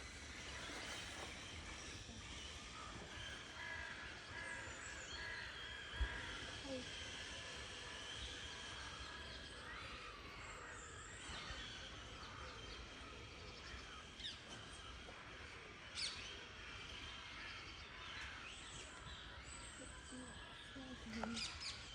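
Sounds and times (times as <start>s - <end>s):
wild birds chirping: 0.0s - 21.9s.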